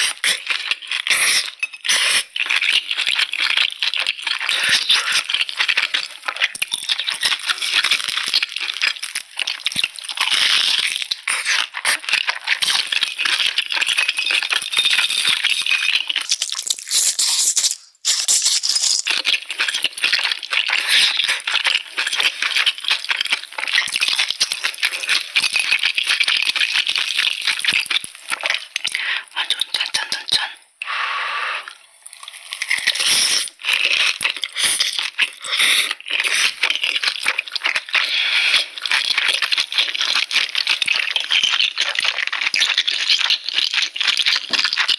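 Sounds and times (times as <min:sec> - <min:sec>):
crisp crackling of food: 0:02.2 - 0:30.5, 0:32.1 - 0:44.9.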